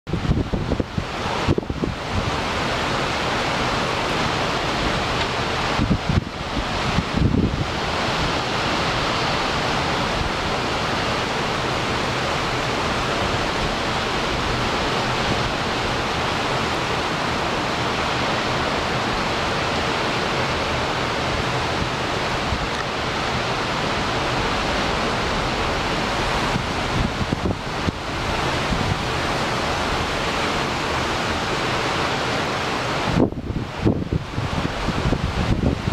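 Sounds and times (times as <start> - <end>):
torrential wind-driven rain: 0.1 - 35.9.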